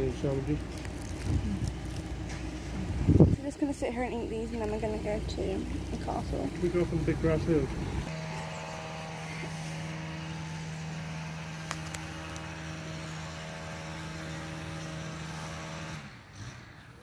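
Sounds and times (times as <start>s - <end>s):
steady engine hum: 0.0s - 17.0s.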